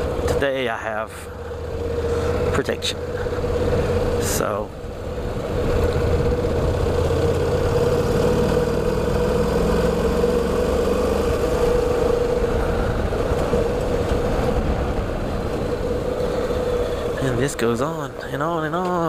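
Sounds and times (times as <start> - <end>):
motorcycle engine running: 0.0 - 17.8
road noise: 0.0 - 19.0.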